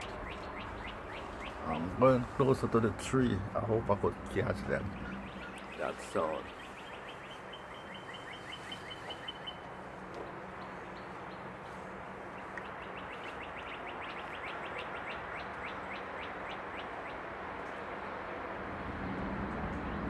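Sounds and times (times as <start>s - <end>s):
birds chirping: 0.0s - 20.0s
steady background noise: 0.0s - 20.0s.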